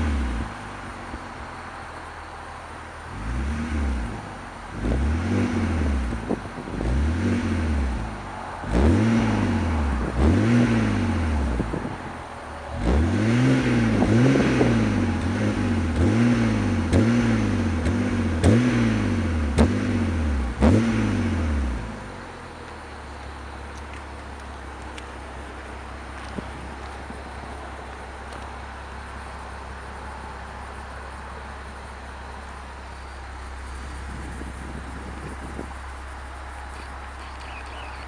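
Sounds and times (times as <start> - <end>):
car engine revving from idle: 0.0 - 38.0
exhaust cracks: 0.0 - 38.0.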